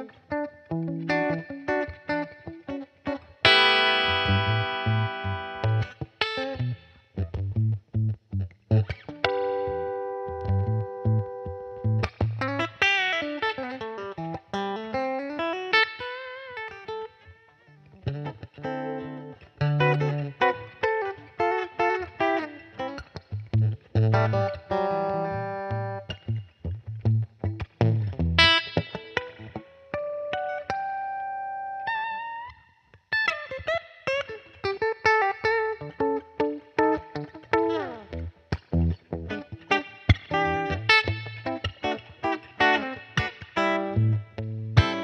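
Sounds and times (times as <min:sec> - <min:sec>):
electric guitar blues lead: 0:00.0 - 0:45.0.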